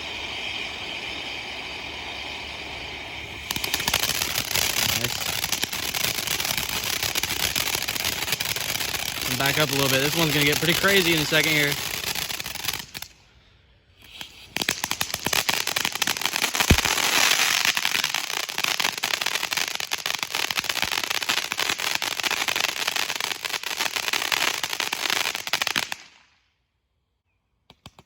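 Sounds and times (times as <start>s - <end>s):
firework fountain crackling: 0.0s - 13.2s, 14.0s - 26.3s.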